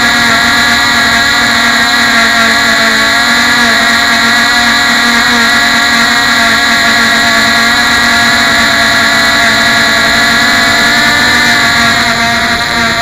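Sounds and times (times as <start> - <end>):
model engines buzzing: 0.0 - 13.0.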